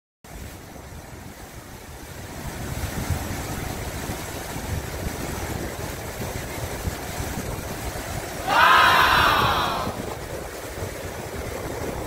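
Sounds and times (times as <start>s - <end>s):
stream rushing over rocks: 0.3s - 12.0s.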